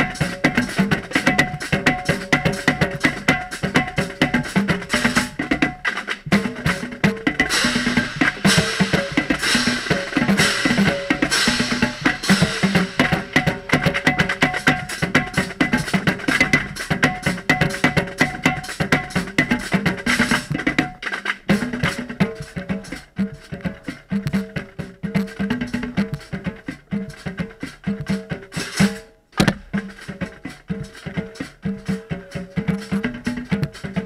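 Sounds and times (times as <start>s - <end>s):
marching drumline cadence: 0.0s - 34.0s
rapid tenor drum sticking: 0.0s - 34.0s.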